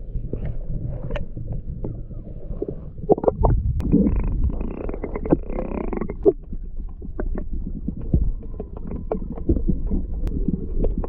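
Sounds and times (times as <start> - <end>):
muffled underwater water rumble: 0.0 - 11.0
underwater clicks and knocks: 0.1 - 11.0.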